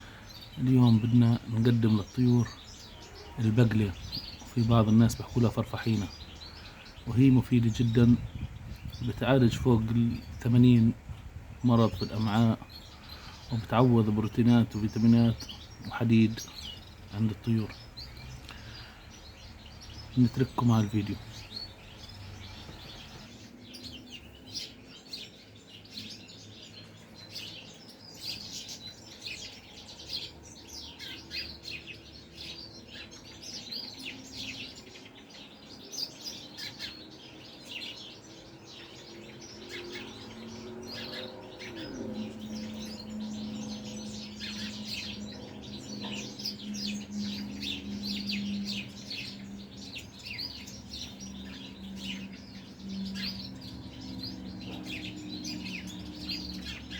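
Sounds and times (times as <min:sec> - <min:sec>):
goldfinches chirping: 0:00.0 - 0:56.9.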